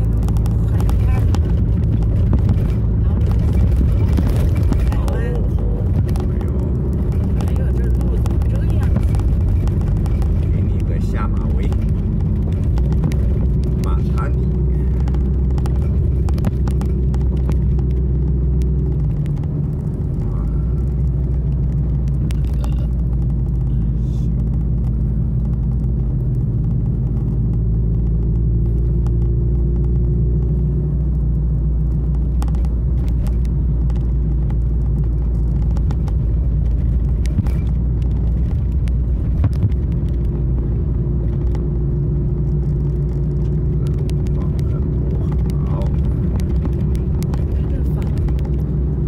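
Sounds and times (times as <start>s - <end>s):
car engine hum: 0.0s - 49.0s
tyre rumble: 0.0s - 49.0s.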